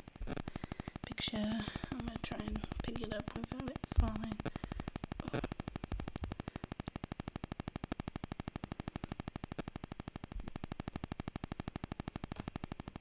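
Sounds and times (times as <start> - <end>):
electrical interference clicking buzz: 0.0 - 13.0.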